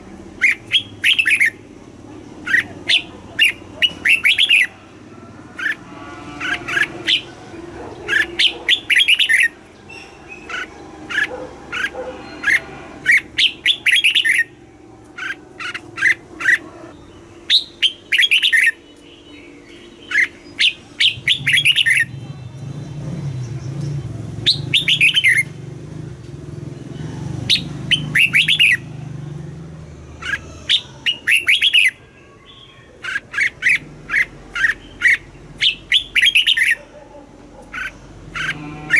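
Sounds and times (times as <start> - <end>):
bulbul singing bright phrases: 0.1 - 38.9.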